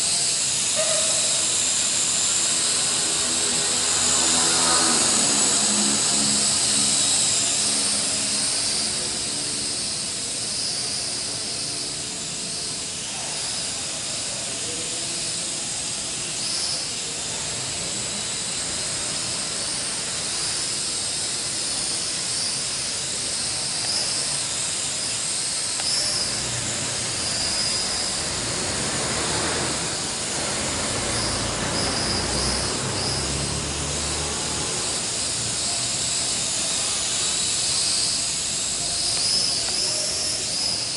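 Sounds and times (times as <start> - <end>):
quadcopter propellers whining: 0.0 - 40.9.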